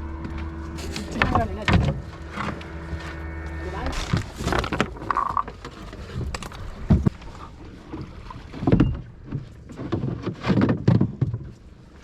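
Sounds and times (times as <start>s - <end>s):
knocks and thuds on boat: 0.2s - 2.6s, 4.0s - 12.0s.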